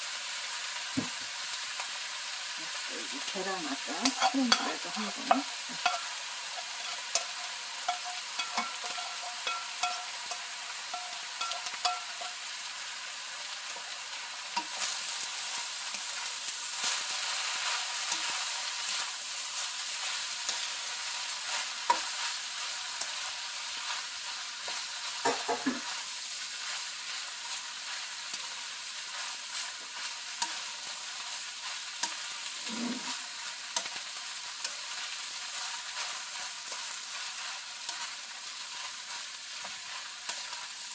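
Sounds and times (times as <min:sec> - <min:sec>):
food sizzling in a hot pan: 0:00.0 - 0:40.9
spatula scraping and tapping pan: 0:03.9 - 0:40.9.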